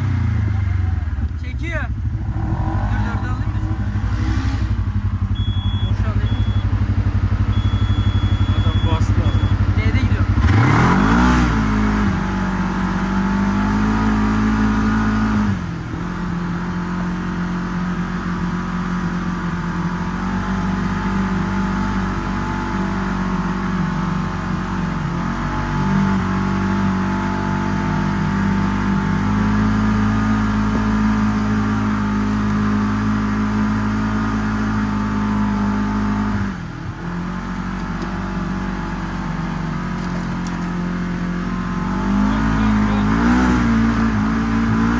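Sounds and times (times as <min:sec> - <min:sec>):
utility vehicle engine running: 0:00.0 - 0:44.9.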